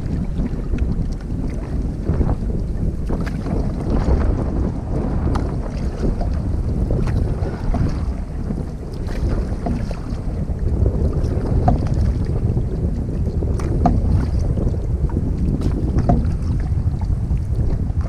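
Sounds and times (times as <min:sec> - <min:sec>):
paddle splashes: 0:00.0 - 0:18.0
wind buffeting microphone: 0:00.0 - 0:18.0.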